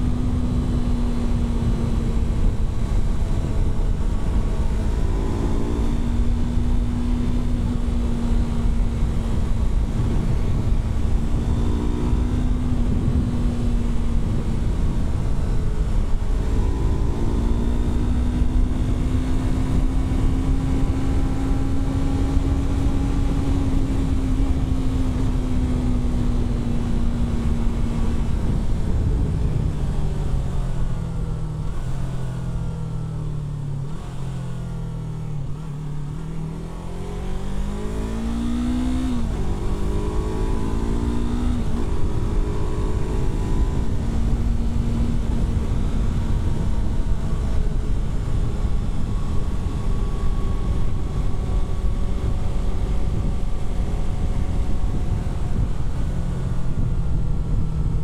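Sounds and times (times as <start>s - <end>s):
wind noise: 0.0s - 32.6s, 35.4s - 58.0s
motorcycle engine running: 0.0s - 58.0s.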